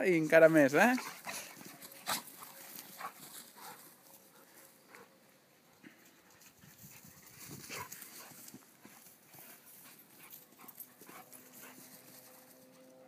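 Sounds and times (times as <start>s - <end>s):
rustling on grass: 0.4s - 5.1s, 5.9s - 12.8s
dogs panting: 0.4s - 12.9s.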